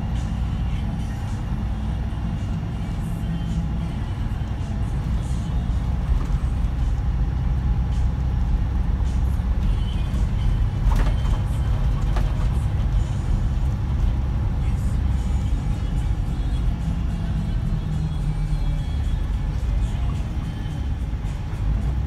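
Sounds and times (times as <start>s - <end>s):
diesel engine drone inside bus: 0.0s - 22.0s.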